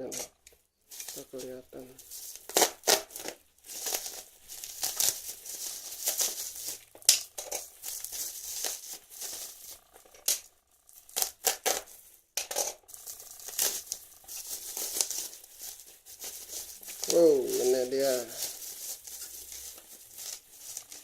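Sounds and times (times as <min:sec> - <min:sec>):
plastic packaging crinkling and tearing: 0:00.9 - 0:21.0.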